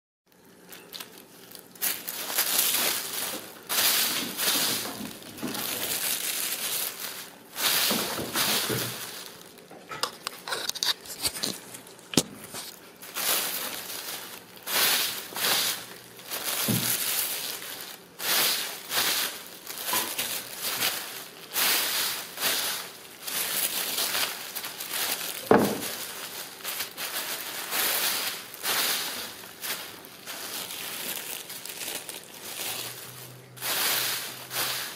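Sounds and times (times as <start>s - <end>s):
paper crinkling and rustling: 0.3s - 34.9s.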